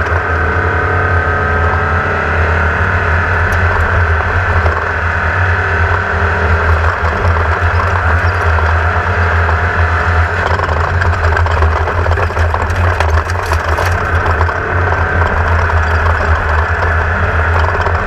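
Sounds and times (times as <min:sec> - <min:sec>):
chassis rattling over rough ground: 0:00.0 - 0:00.8, 0:02.8 - 0:18.0
buggy engine running hard: 0:00.0 - 0:18.0.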